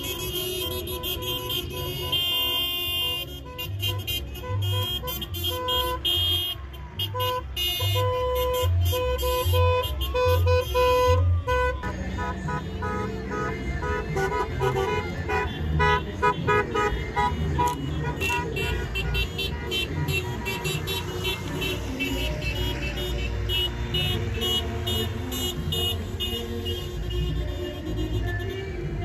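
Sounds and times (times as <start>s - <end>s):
car horns beeping: 0.0s - 29.0s.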